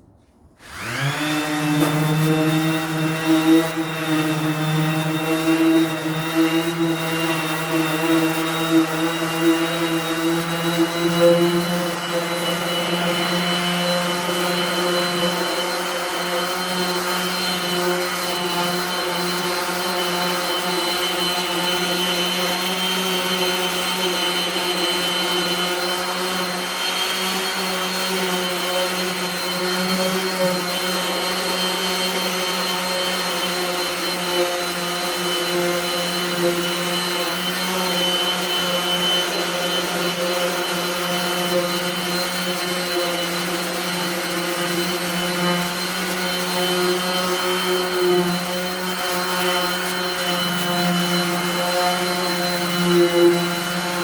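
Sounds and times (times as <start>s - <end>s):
power sander running: 0.6s - 54.0s.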